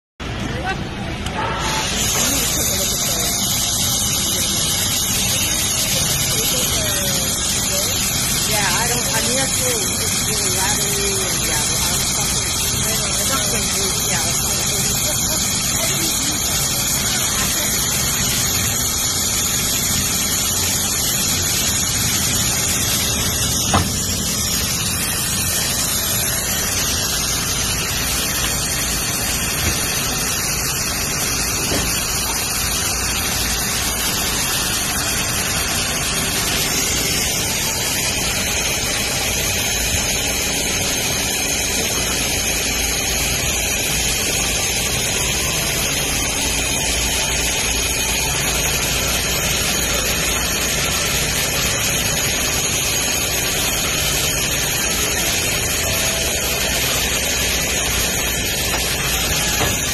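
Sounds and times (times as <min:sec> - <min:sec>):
factory background noise: 0:00.2 - 0:59.9
sewing machine running with whine: 0:00.2 - 0:59.9.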